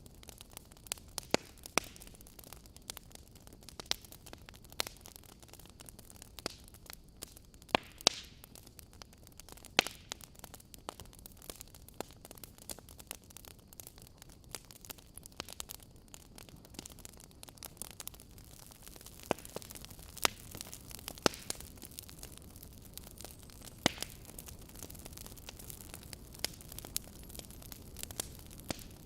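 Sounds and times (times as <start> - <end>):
fire pops and snaps: 0.0 - 29.0
wood fire crackling: 0.0 - 29.0.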